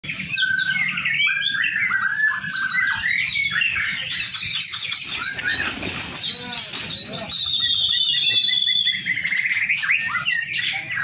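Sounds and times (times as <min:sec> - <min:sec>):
birds whistling songs: 0:00.0 - 0:11.0.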